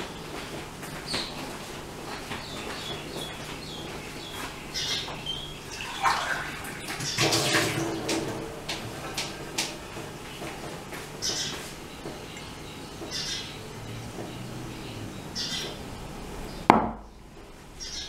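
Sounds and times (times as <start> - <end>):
small birds chirping: 0.0 - 7.2, 9.6 - 18.0.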